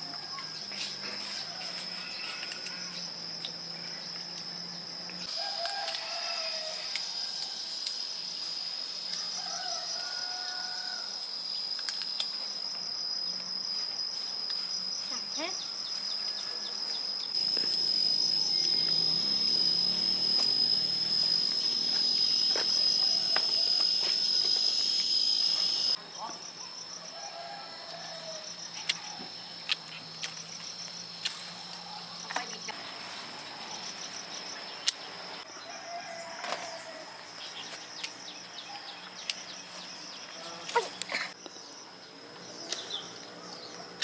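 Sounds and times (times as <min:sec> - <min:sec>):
insects shrilling buzz: 0:00.0 - 0:44.0.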